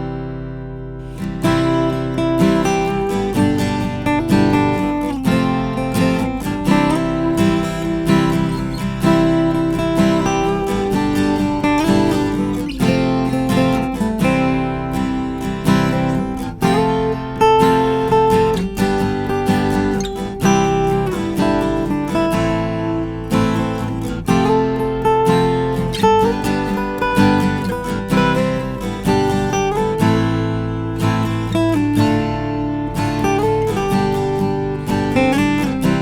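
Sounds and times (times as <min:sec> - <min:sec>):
acoustic guitar strummed chords: 0:00.0 - 0:36.0.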